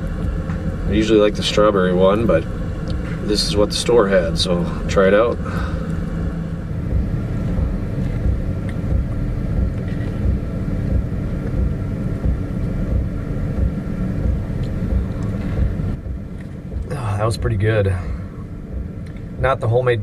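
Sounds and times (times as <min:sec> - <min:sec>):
air heater humming: 0:00.0 - 0:20.0.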